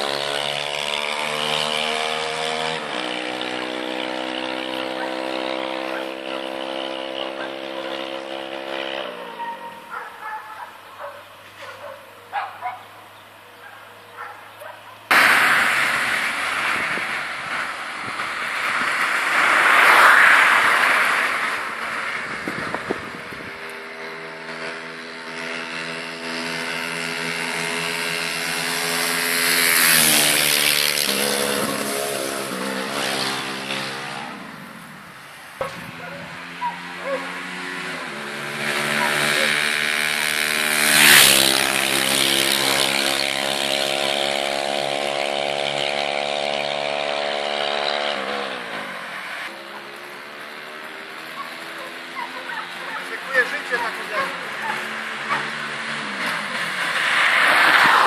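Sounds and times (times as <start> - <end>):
motorcycle engine revving past: 0.0 - 12.9, 14.1 - 58.0.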